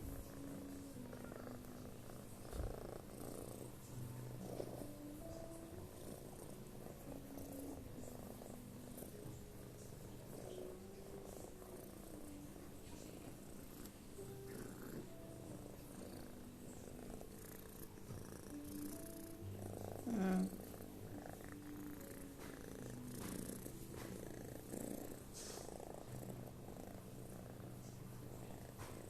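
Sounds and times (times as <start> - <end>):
cat snoring quietly: 0.0 - 29.0.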